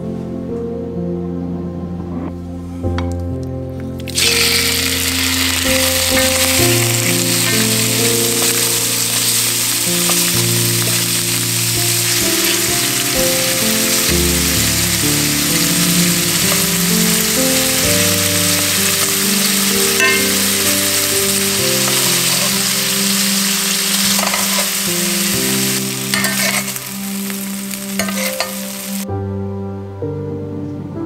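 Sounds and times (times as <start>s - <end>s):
shrimp sizzling in hot oil: 4.0s - 29.0s.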